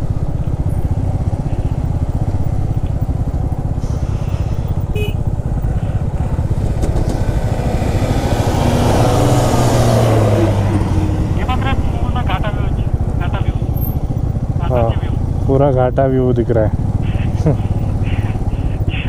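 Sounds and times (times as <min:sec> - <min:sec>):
motorcycle engine running: 0:00.0 - 0:19.0
truck passing close: 0:00.0 - 0:19.0.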